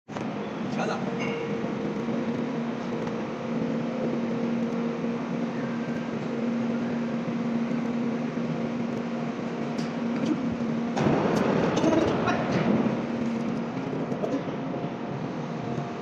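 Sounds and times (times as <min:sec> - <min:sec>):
machinery hum: 0:00.1 - 0:16.0.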